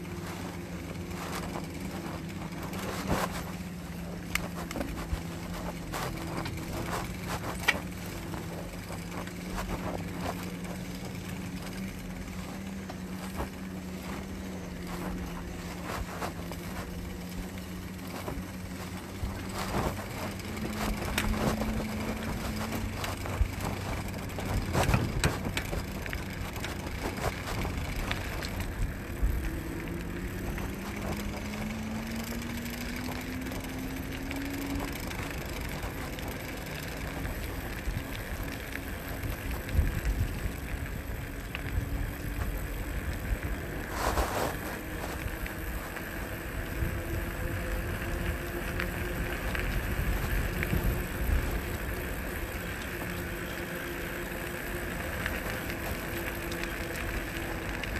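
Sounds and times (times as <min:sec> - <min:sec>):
electric bike motor hum: 0:00.0 - 0:57.9.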